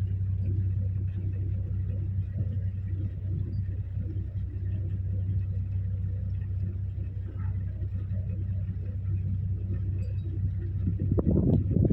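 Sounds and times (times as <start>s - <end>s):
engine humming: 0.0s - 11.9s.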